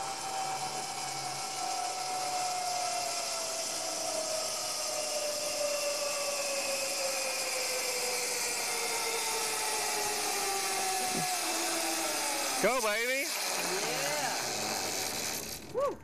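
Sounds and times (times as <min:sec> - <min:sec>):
zip line trolley whine: 0:00.0 - 0:16.0.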